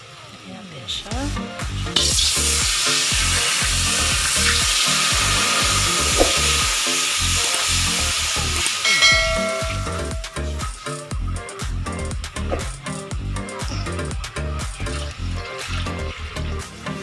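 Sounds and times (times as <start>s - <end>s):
liquid sizzling in a hot wok: 0.0s - 17.0s
background music with bass beat: 1.2s - 17.0s.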